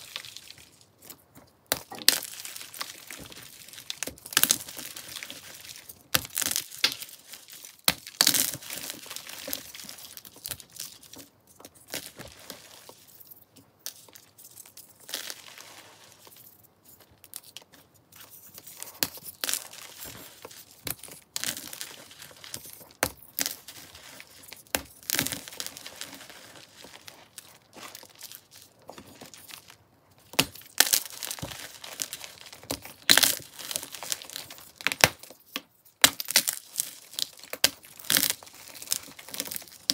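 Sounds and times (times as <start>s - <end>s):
chalk crunching and crumbling: 0.0s - 39.9s.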